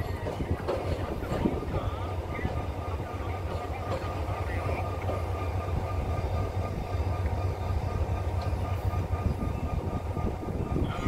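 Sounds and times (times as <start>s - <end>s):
diesel railcar rumbling: 0.0s - 11.0s.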